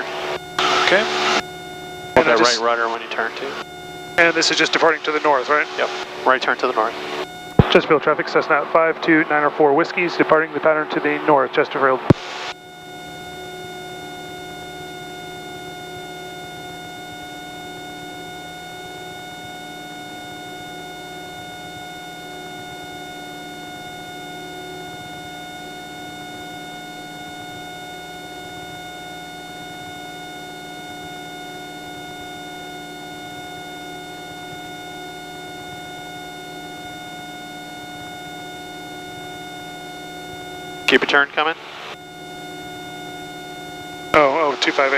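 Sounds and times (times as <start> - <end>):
high-pitched whine: 0.0 - 44.9.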